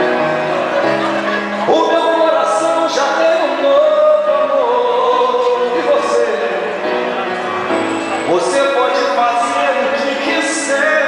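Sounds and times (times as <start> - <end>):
accompanying music: 0.0 - 11.0
man singing into a microphone: 0.6 - 7.4, 8.2 - 11.0.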